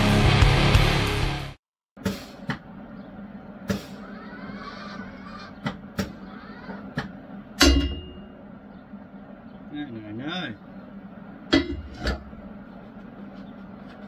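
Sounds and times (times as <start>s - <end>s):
steady low hum: 2.0s - 14.0s.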